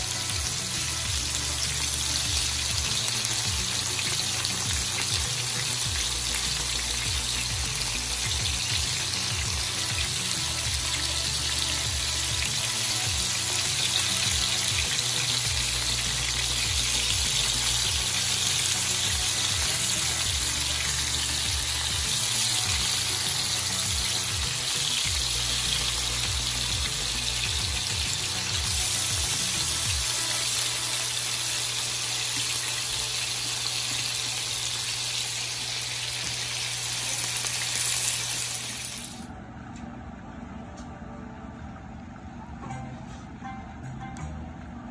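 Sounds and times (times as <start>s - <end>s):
steaks sizzling in butter: 0.0s - 39.2s.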